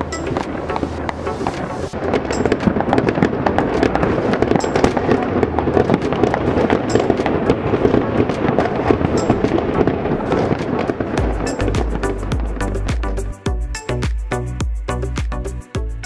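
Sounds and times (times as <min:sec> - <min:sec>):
fireworks bangs and crackles: 0:00.0 - 0:14.2.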